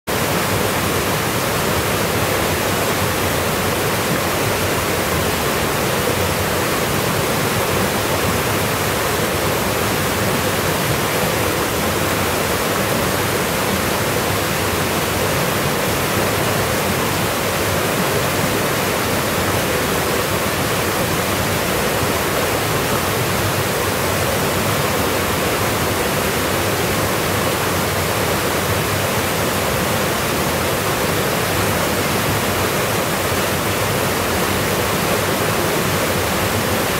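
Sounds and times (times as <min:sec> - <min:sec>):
stream pouring over cascades: 0:00.1 - 0:36.9.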